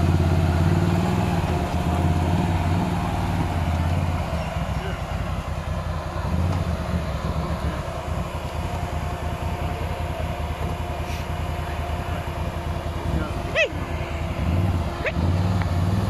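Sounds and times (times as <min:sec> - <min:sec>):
quad engine low rumble: 0:00.0 - 0:16.0.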